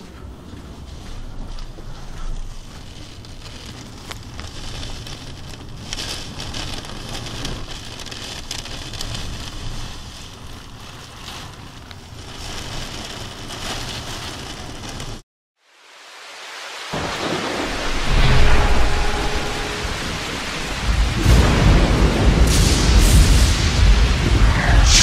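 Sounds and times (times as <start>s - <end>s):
wind and heavy rain rushing: 0.0s - 25.0s.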